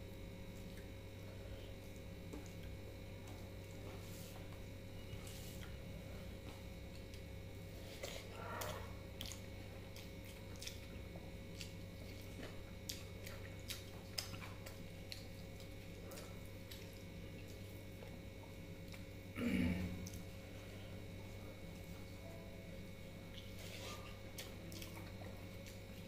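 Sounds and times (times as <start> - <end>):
faint electrical hum: 0.0 - 26.0
chewing and mouth sounds: 0.5 - 19.2, 19.9 - 22.2, 23.2 - 26.0.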